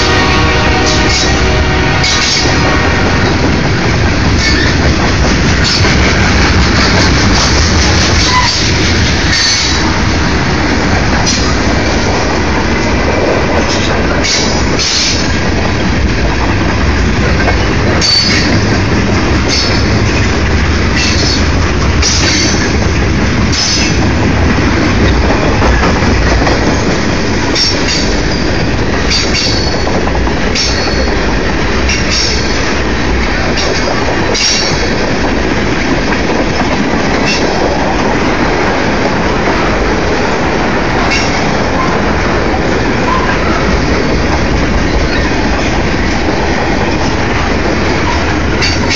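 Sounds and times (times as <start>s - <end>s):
freight train wheels rumbling: 0.0s - 48.9s.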